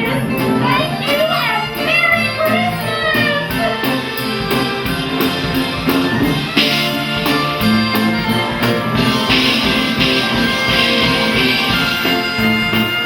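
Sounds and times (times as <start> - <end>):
band accompaniment with steady beat: 0.0 - 13.0.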